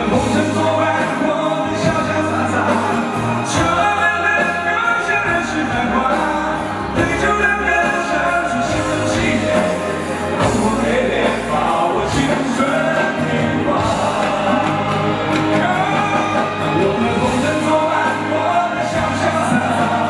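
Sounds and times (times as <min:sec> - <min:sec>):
backing music: 0:00.0 - 0:20.0
man singing into microphone: 0:00.0 - 0:20.0.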